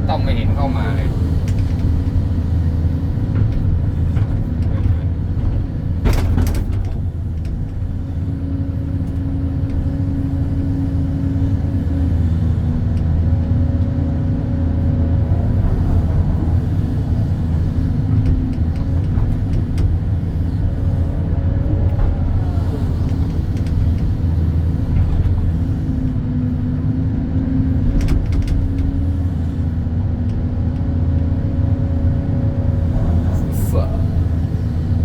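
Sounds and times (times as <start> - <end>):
excavator diesel engine rumbling: 0.0 - 35.0.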